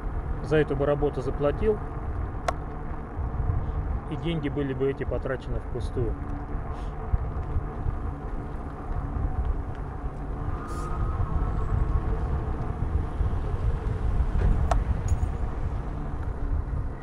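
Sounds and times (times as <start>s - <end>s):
bicycle tyres on asphalt: 0.0s - 5.1s, 5.7s - 17.0s
wind rumble on microphone: 0.0s - 17.0s.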